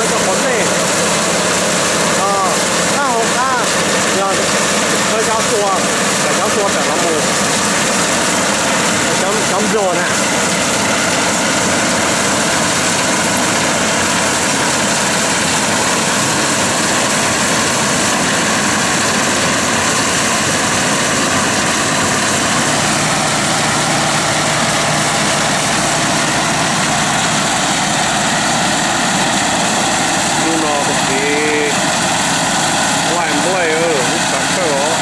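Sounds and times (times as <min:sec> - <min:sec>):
threshing machinery running: 0:00.0 - 0:35.0
tractor diesel engine: 0:00.0 - 0:35.0.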